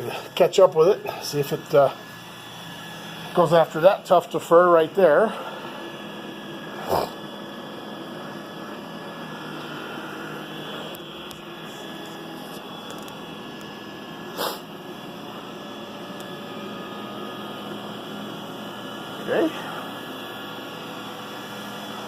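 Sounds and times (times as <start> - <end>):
robot vacuum humming: 0.0 - 22.0.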